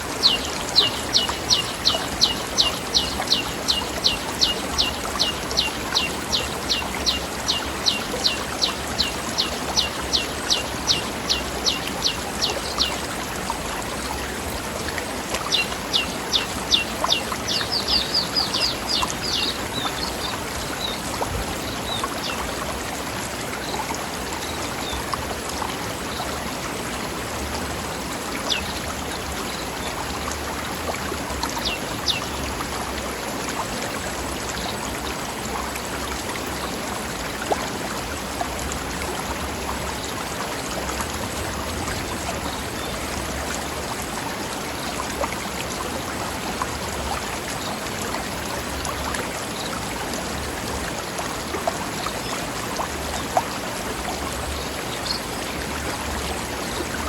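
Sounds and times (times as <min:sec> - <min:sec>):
stream running over rocks: 0:00.0 - 0:57.0
water splashes: 0:00.0 - 0:57.0.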